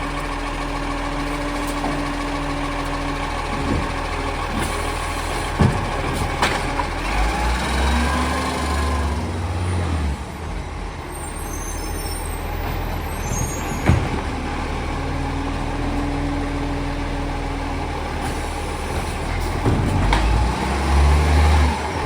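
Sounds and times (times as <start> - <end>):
diesel engine running: 0.0 - 11.0, 12.4 - 22.0.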